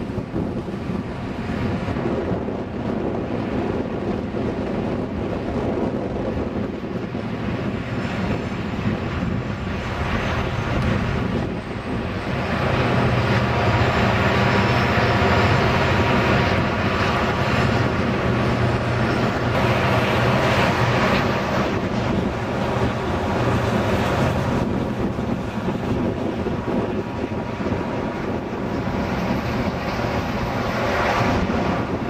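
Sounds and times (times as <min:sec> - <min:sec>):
locomotive engine drone: 0:00.0 - 0:32.0
wheel and rail noise: 0:00.0 - 0:32.0.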